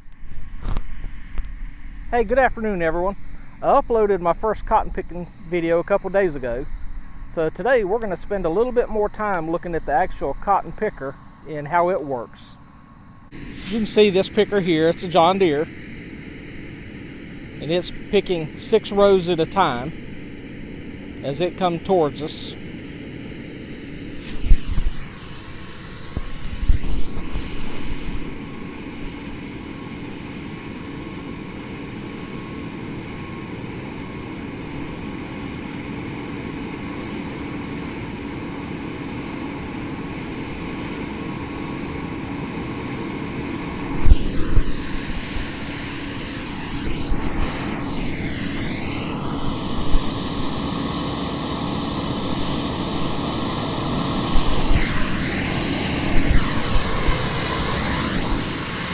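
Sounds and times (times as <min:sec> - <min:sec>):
engine and fan drone with whine: 0:00.0 - 0:58.9.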